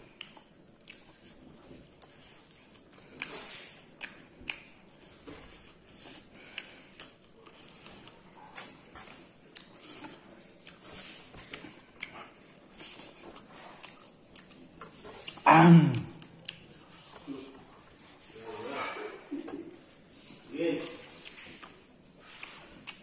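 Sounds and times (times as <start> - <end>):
person chewing noodles: 0.0 - 23.0.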